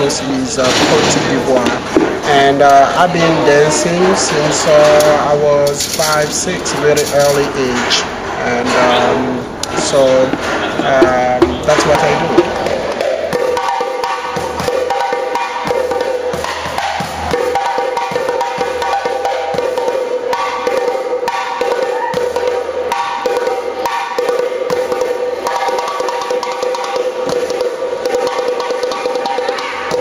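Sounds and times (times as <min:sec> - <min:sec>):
fast hand drum strokes: 0:00.0 - 0:08.0, 0:08.7 - 0:30.0.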